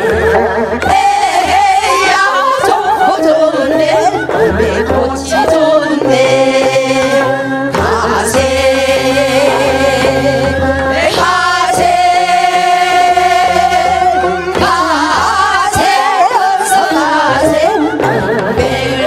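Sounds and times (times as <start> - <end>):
amplified instrumental backing: 0.0 - 19.0
women singing folk song: 0.0 - 19.0.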